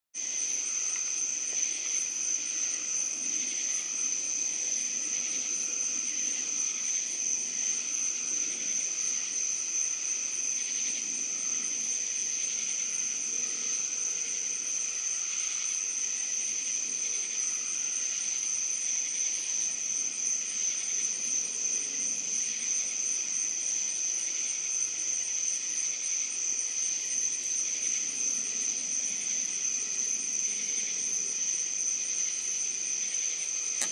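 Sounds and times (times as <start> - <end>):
fainter lower insect trill: 0.2 - 33.9
high continuous insect trill: 0.2 - 33.9.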